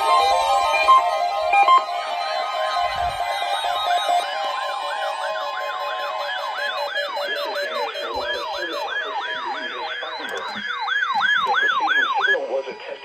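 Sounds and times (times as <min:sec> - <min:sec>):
electronic siren sweeping: 0:00.0 - 0:12.4.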